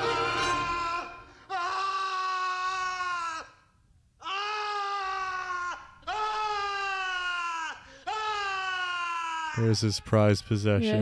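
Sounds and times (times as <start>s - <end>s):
man screaming in terror: 0.5s - 10.1s.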